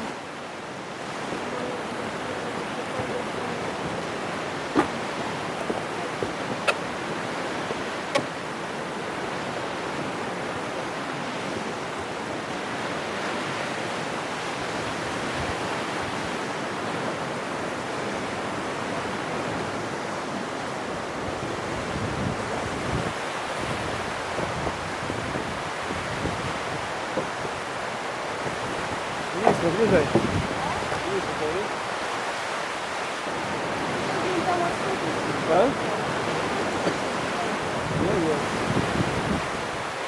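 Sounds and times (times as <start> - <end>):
mountain river rushing: 0.0 - 40.0.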